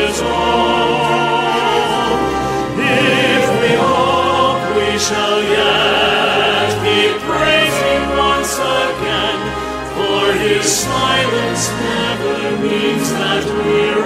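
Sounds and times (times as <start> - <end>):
choir singing sacred song: 0.0 - 14.0
orchestral accompaniment: 0.0 - 14.0.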